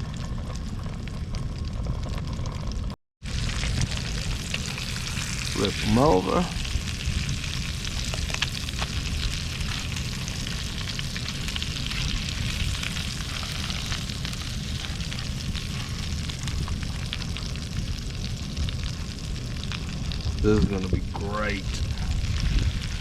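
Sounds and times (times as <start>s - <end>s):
fish sizzling in a hot pan: 3.2s - 23.0s.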